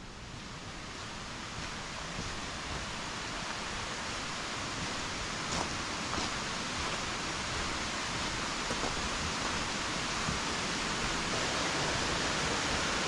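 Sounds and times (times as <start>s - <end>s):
water rushing in gorge: 0.2s - 13.0s.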